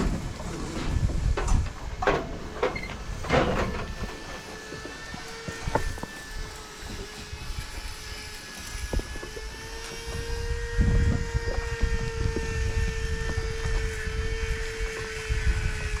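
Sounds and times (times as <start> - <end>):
wind buffeting microphone: 0.0 - 4.3, 5.0 - 16.0
steady mechanical hum: 0.0 - 16.0.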